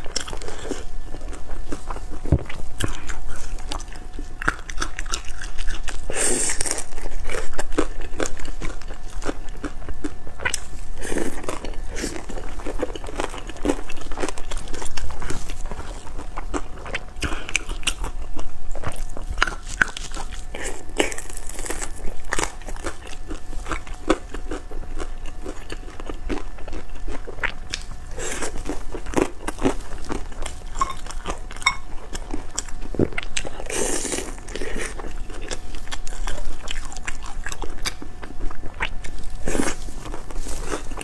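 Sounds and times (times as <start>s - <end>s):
biting and chewing crunchy buns: 0.0s - 41.0s.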